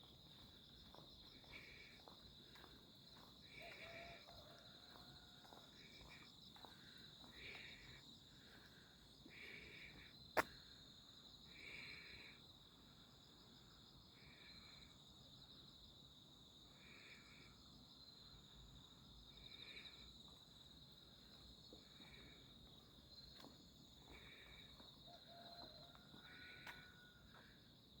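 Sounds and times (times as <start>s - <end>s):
lower insect call: 0.0s - 28.0s.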